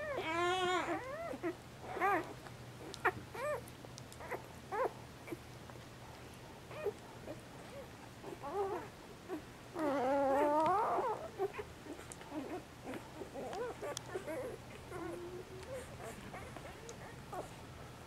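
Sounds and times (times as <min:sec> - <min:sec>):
puppies squeaking and whimpering: 0:00.0 - 0:05.4, 0:06.7 - 0:17.6.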